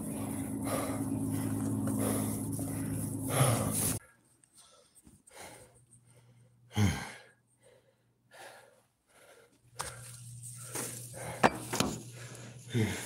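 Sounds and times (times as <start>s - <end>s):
man breathing hard: 0.0s - 11.5s, 12.1s - 13.0s
steady low hum: 0.0s - 13.0s.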